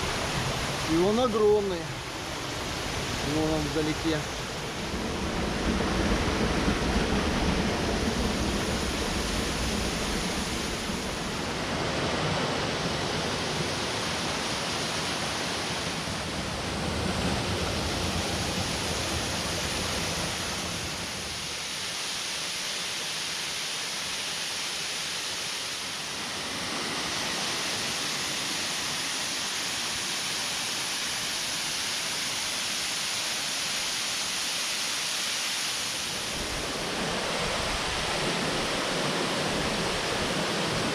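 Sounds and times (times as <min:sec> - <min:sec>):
waterfalls and rapids rushing: 0:00.0 - 0:40.9.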